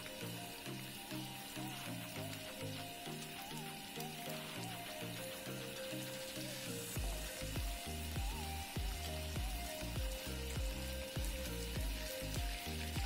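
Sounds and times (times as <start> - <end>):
background music with deep bass: 0.0 - 13.0
fish sizzling in oil: 0.0 - 13.0.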